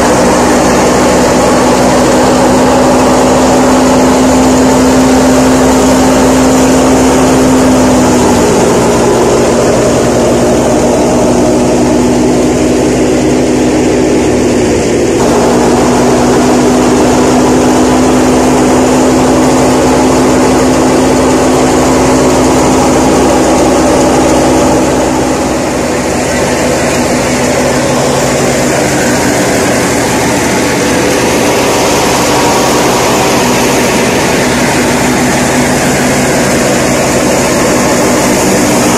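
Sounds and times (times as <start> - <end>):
thresher machine humming: 0.0 - 38.9
tractor engine running: 0.0 - 38.9.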